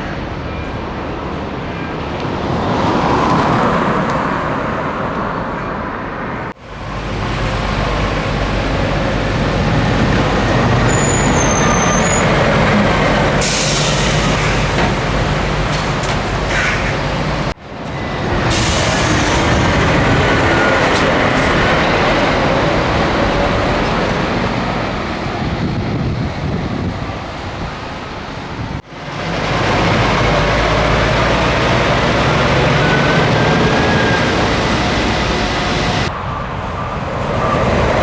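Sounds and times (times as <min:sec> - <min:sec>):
truck engine and tyre noise: 0:00.0 - 0:38.0.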